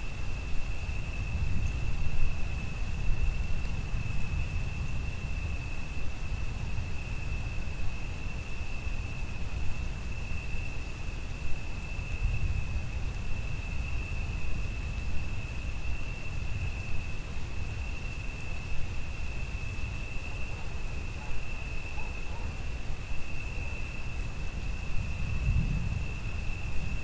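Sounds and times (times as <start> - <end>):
crickets trilling: 0.0 - 27.0
faint rain hiss: 0.0 - 27.0.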